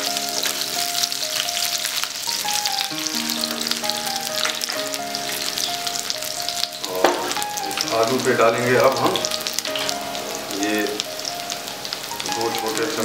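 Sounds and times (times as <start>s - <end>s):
background music melody: 0.0s - 13.0s
potatoes sizzling in hot oil: 0.0s - 13.0s.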